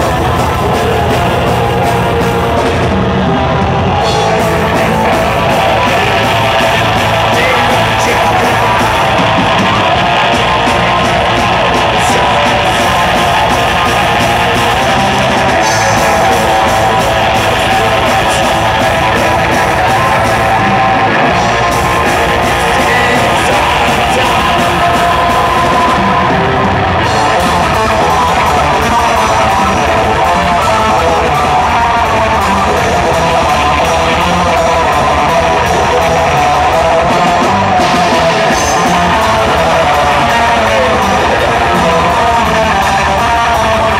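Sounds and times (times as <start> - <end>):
bass guitar: 0.0 - 43.9
distorted electric guitar: 0.0 - 43.9
drums: 0.0 - 43.9.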